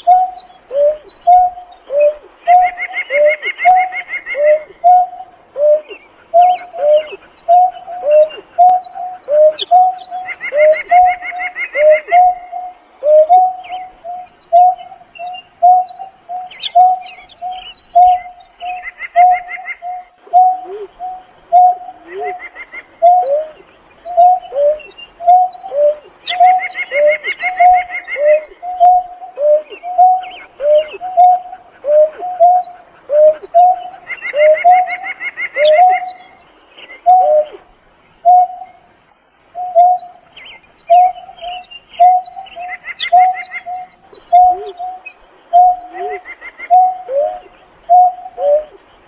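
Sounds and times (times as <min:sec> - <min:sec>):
bird low hooting notes: 0:00.0 - 0:49.0.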